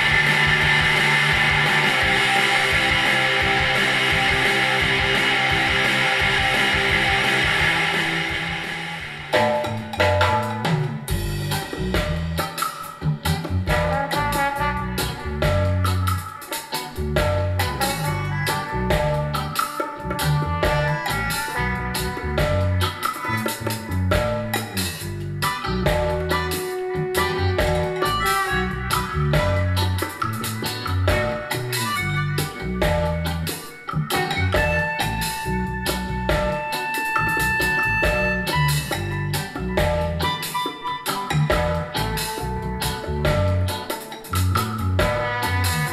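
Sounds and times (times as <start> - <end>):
reggae music through speakers: 0.0 - 45.9.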